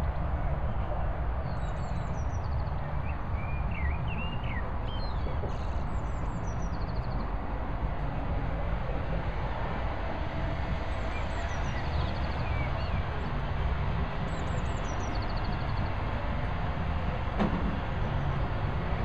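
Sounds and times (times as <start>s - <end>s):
songbirds chirping and trilling: 0.6s - 19.0s.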